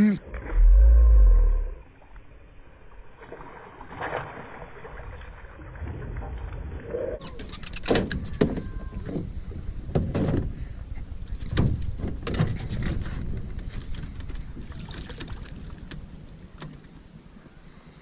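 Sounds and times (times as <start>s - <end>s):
water splashing: 0.0s - 17.5s.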